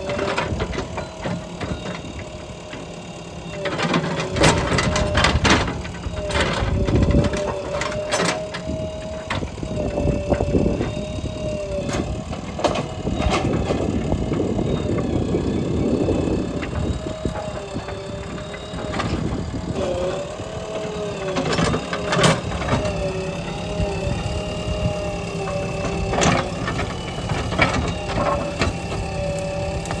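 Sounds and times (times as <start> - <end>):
digger diesel engine running: 0.0 - 30.0
whining tone: 0.0 - 30.0.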